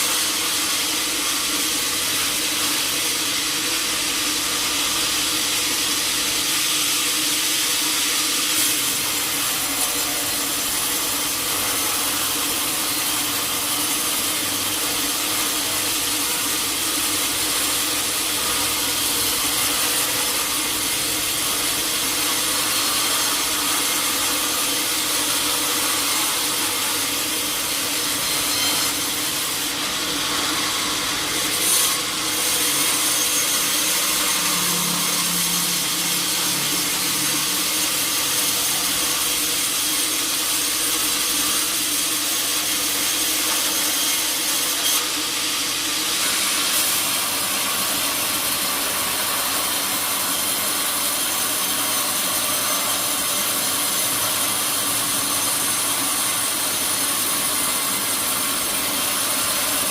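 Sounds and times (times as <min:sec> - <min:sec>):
saw blade cutting through log: 0:00.0 - 0:59.9.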